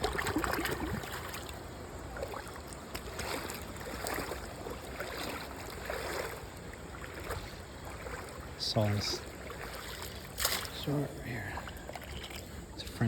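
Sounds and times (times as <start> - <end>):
water sloshing and trickling: 0.0 - 13.0.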